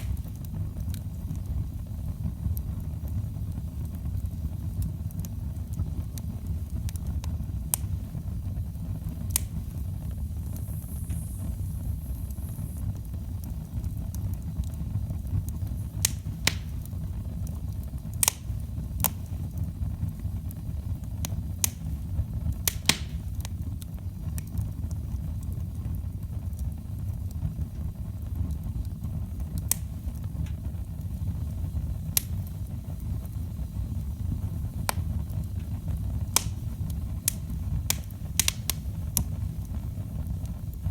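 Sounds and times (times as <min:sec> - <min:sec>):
fire crackling and popping: 0:00.0 - 0:40.9
fire rumbling: 0:00.0 - 0:40.9.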